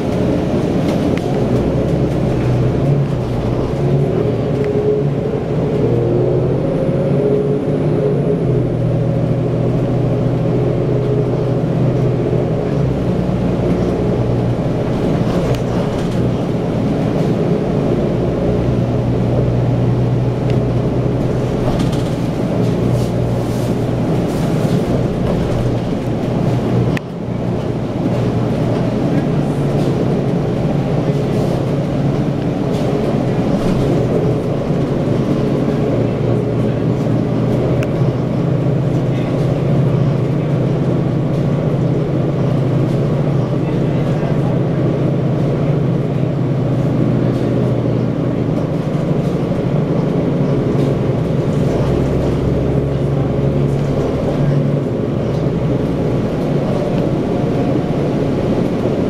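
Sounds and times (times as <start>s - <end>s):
bus diesel engine drone: 0.0s - 59.0s
road noise: 0.0s - 59.0s.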